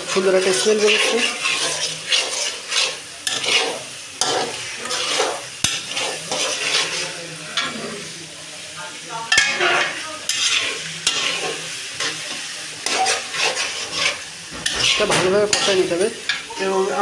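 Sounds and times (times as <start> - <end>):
spatula scraping metal pan: 0.0 - 7.9, 9.3 - 16.7
food sizzling in oil: 0.0 - 17.0.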